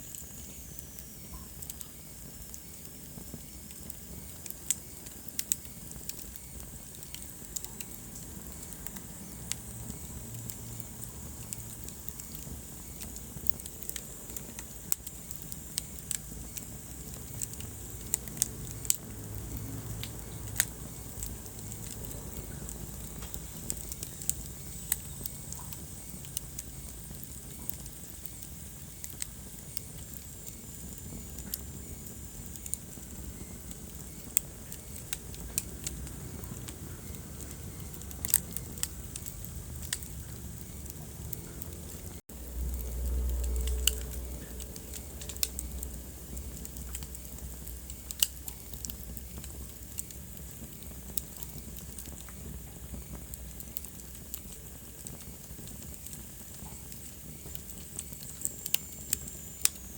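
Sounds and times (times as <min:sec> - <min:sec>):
fire crackles and pops: 0:00.0 - 0:59.9
fire flames rumbling: 0:00.1 - 0:59.9.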